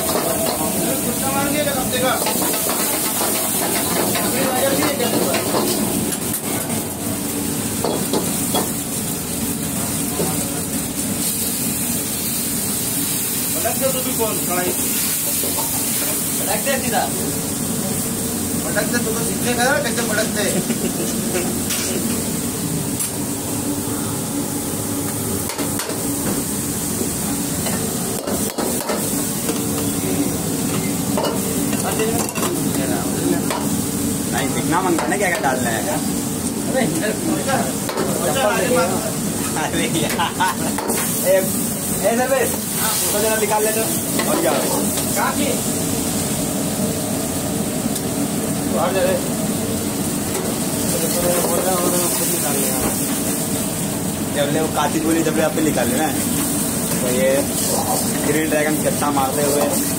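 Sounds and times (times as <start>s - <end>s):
gas burner rushing: 0.0s - 59.9s
oil sizzling in a wok: 0.0s - 59.9s.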